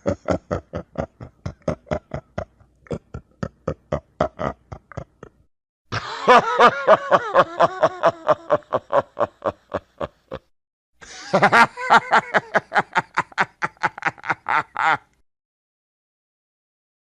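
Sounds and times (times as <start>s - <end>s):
evil cackling laughter: 0.0s - 15.2s.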